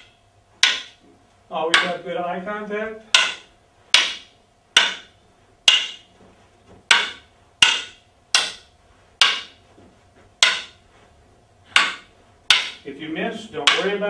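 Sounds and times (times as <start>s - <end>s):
wooden sticks clacking: 0.0s - 2.1s, 3.1s - 14.0s.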